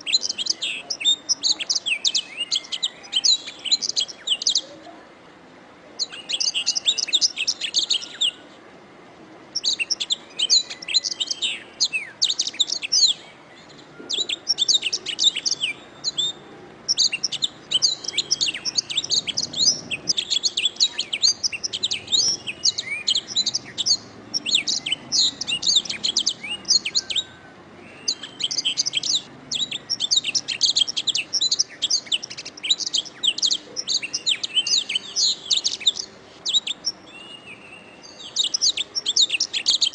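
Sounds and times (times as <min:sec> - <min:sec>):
canary singing trills: 0:00.0 - 0:05.0, 0:06.0 - 0:08.6, 0:09.5 - 0:39.9.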